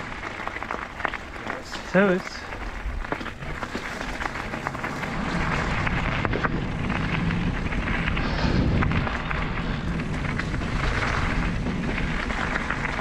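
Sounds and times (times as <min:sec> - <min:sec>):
mountain bike riding rumble: 0:00.0 - 0:13.0.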